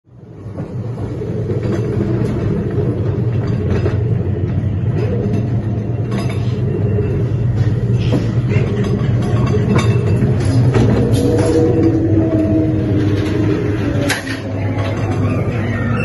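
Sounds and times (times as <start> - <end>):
ride car rumbling on track: 0.1 - 16.0.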